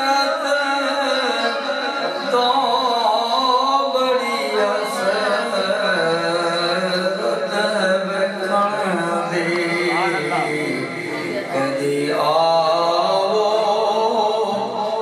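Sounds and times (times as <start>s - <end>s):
man reciting over loudspeakers: 0.0s - 15.0s.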